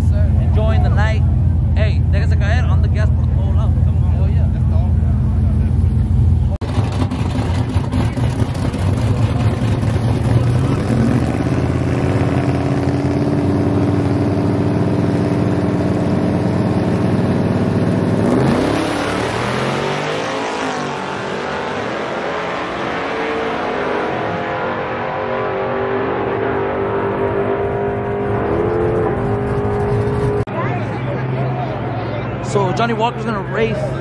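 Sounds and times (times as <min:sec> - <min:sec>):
truck engines revving: 0:00.0 - 0:34.0
trucks accelerating away: 0:00.0 - 0:34.0.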